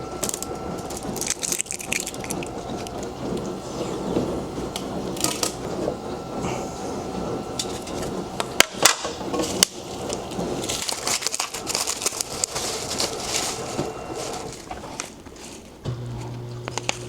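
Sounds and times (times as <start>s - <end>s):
wrapping crinkling and rustling: 0.0s - 17.0s.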